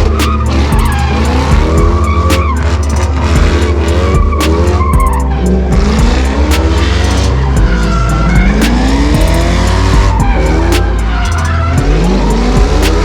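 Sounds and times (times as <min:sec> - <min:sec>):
car engines revving: 0:00.0 - 0:13.0
loud music with heavy bass: 0:00.0 - 0:13.0
tires squealing: 0:00.0 - 0:13.0.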